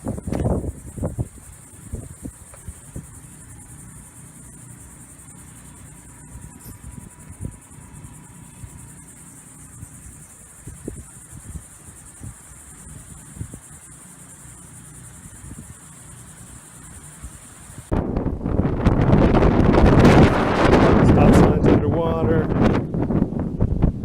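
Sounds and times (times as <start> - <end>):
crickets chirping: 0.0 - 24.0
wind rumble on microphone: 0.0 - 24.0.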